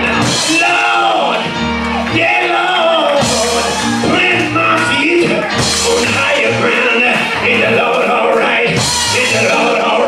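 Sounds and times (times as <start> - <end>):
gospel band playing: 0.0 - 10.0
man singing into microphone: 0.0 - 10.0.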